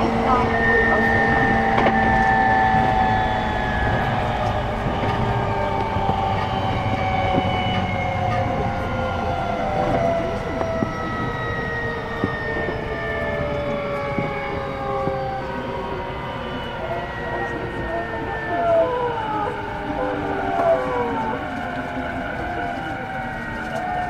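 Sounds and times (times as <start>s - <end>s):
traction motor whine: 0.0s - 24.0s
train wheels rumbling on rail: 0.0s - 24.0s.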